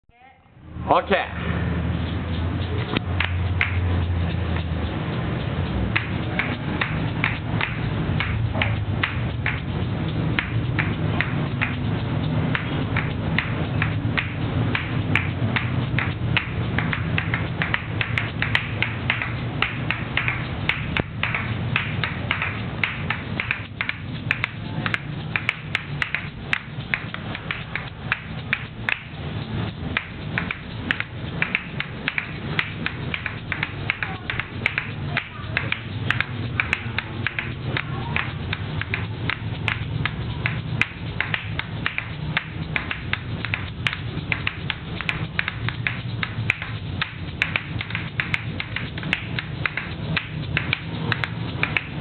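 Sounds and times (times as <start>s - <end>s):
asalato shells clacking: 5.4s - 52.0s.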